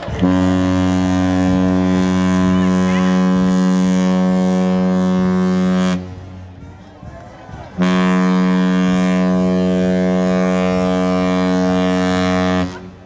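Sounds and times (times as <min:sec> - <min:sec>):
ship's horn blast: 0:00.0 - 0:06.6, 0:07.8 - 0:13.0.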